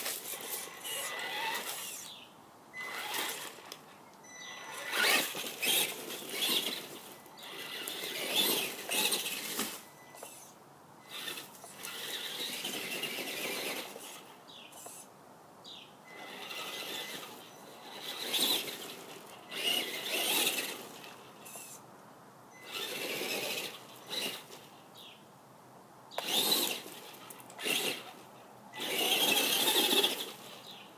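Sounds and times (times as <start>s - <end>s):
rc truck electric motor whining: 0.0s - 2.2s, 2.8s - 15.1s, 16.1s - 21.8s, 22.5s - 24.7s, 26.2s - 30.8s.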